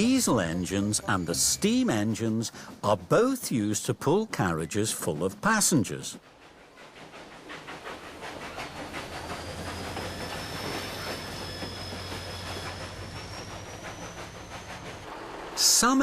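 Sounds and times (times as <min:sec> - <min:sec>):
train wheels clicking on rails: 0:00.0 - 0:16.0.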